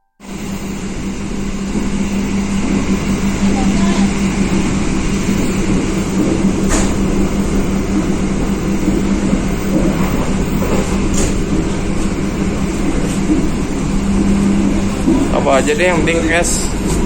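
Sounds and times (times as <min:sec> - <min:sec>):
constant low hum: 0:00.2 - 0:17.0
train carriage rumbling: 0:00.2 - 0:17.0.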